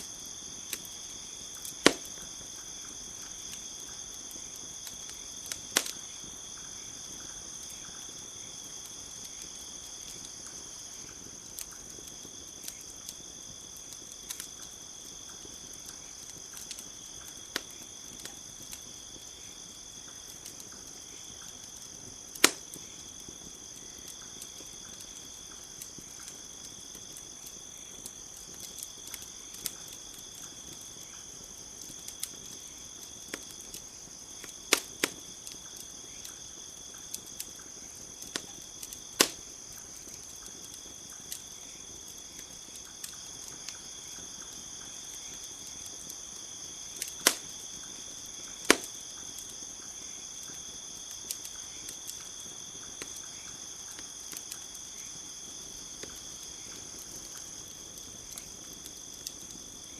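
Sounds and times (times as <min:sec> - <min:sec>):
campfire crackling: 0:00.0 - 0:59.9
crickets chirring: 0:00.0 - 0:59.9.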